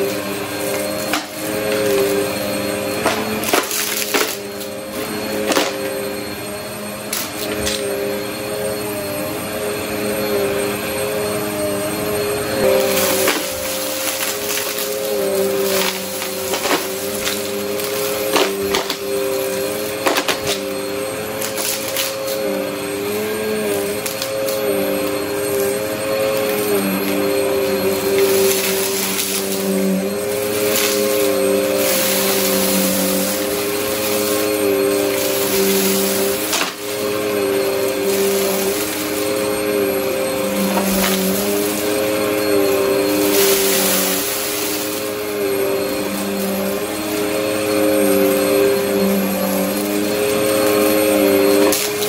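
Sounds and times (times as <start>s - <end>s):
debris crackling in vacuum: 0.0s - 6.0s, 12.6s - 22.4s, 23.0s - 52.0s
vacuum cleaner motor humming: 0.0s - 52.0s.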